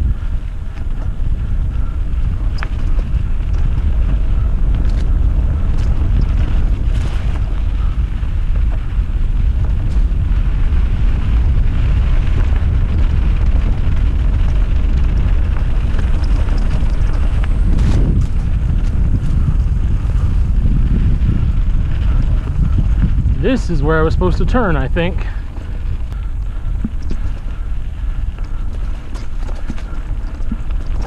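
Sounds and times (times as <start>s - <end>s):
low rumble: 0.0s - 31.0s
wind buffeting microphone: 0.0s - 31.0s.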